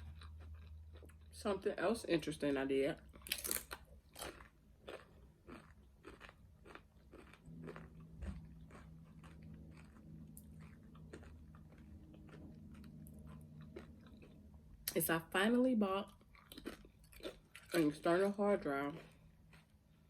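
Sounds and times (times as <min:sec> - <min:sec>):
person chewing crunchy food: 0:00.0 - 0:01.4, 0:03.1 - 0:15.0, 0:16.0 - 0:20.0
faint low hum: 0:00.0 - 0:20.0.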